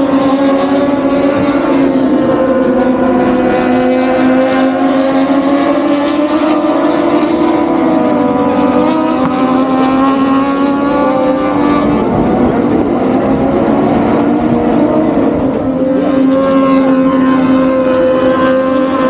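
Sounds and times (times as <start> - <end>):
loud engine drone: 0.0 - 19.0.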